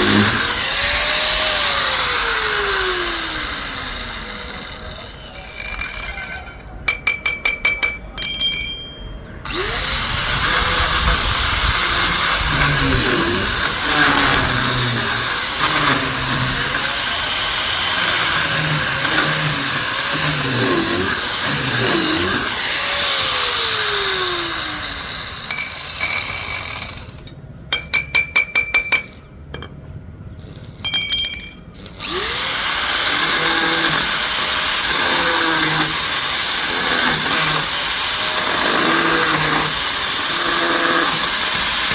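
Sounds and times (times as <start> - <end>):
power drill boring into stone: 0.0 - 6.8, 9.5 - 27.2, 31.8 - 41.9.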